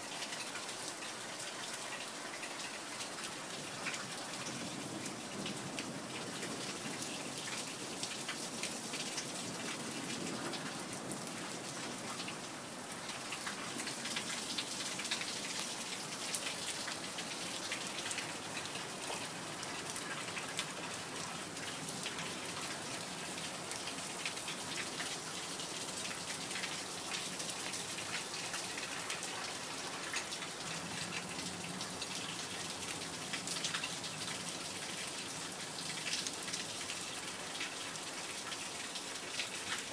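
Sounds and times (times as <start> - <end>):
raindrops ticking and spattering: 0.0 - 39.9
steady rain falling: 0.0 - 39.9.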